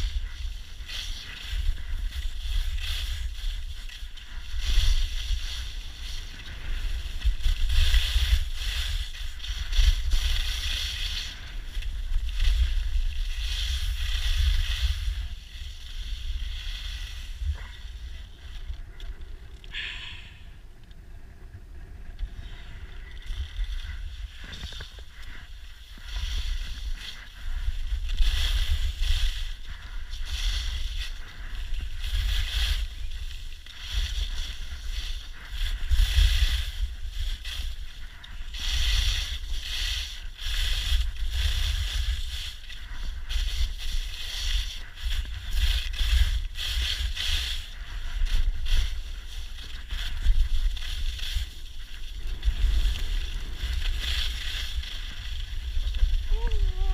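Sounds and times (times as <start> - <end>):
wind buffeting microphone: 0.0 - 19.5, 20.3 - 56.9
skis scraping over snow: 0.0 - 20.4, 21.8 - 56.9.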